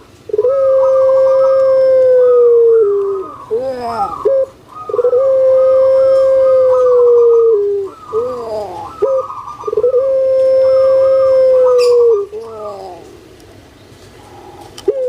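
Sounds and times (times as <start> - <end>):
dove cooing: 0.0 - 13.3, 14.2 - 15.0.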